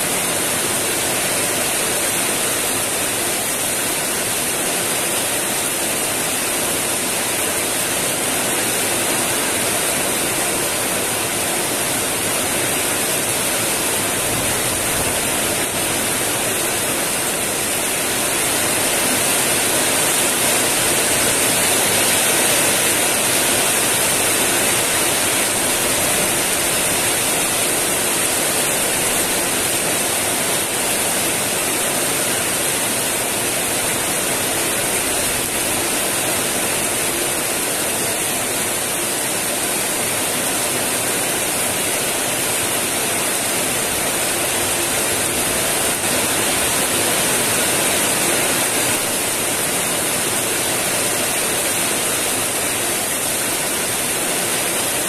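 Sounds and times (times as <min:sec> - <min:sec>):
heavy rain on wet ground: 0:00.0 - 0:55.0.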